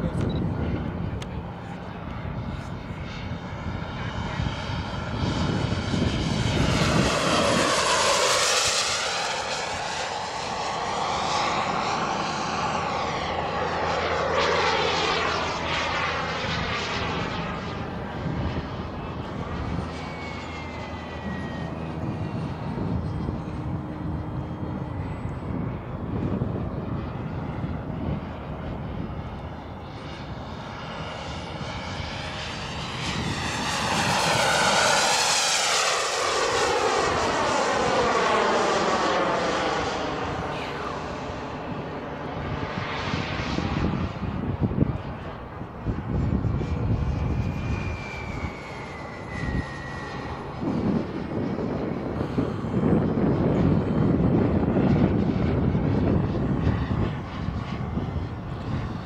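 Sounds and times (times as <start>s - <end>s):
aircraft engine noise: 0.0s - 59.0s.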